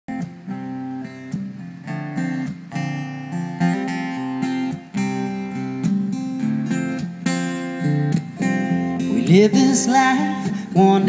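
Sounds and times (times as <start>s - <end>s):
acoustic guitar strumming: 0.1s - 11.0s.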